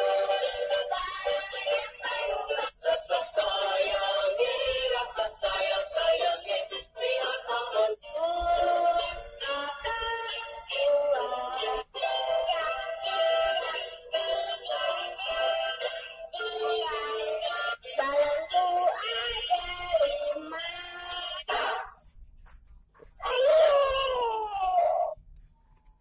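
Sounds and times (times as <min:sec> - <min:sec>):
toy cat singing: 0:00.0 - 0:22.0, 0:23.2 - 0:25.1.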